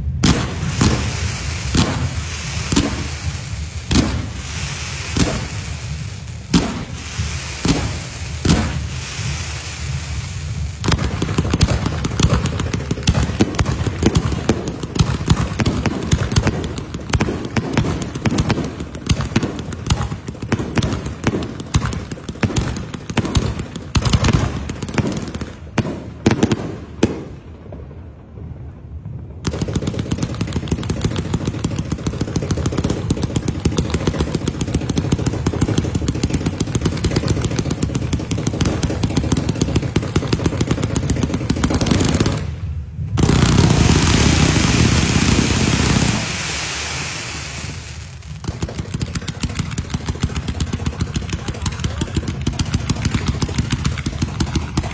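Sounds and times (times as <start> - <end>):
loud dense crackle: 0.0 - 25.6, 29.0 - 54.9
fireworks cracking and popping: 0.0 - 54.9.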